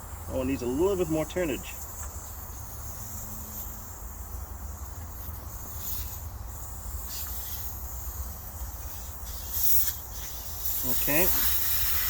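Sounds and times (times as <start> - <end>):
air hissing from tire valve: 0.0 - 12.0
crickets chirring: 0.0 - 12.0.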